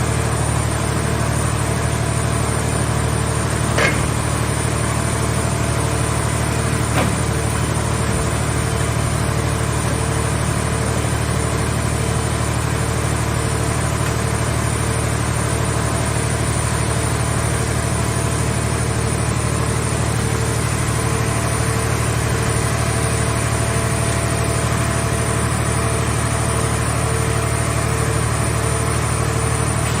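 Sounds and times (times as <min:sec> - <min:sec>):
hydraulic power unit humming: 0:00.0 - 0:30.0.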